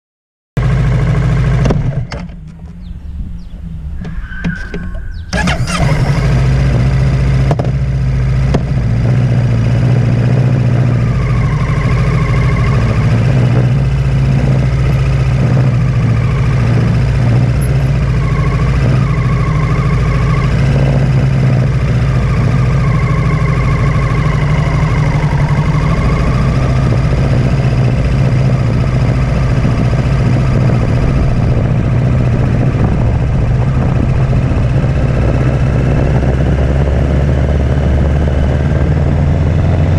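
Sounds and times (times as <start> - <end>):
motorcycle engine humming: 0.6 - 39.9.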